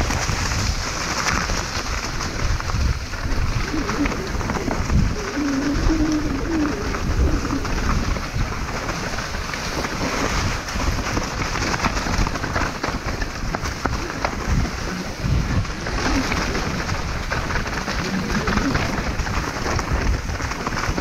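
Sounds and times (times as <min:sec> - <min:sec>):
bike rattling: 0:00.0 - 0:21.0
wind rumble on microphone: 0:00.0 - 0:21.0.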